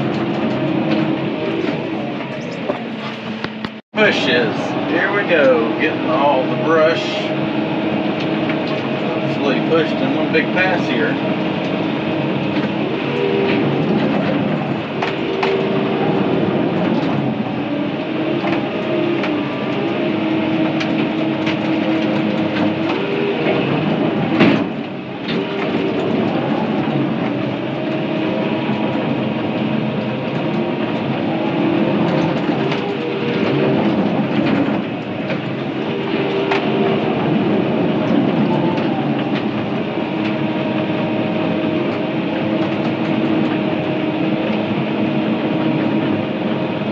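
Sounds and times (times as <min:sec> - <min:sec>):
steel tracks clanking: 0:00.0 - 0:46.8
diesel engine under load: 0:00.0 - 0:46.9.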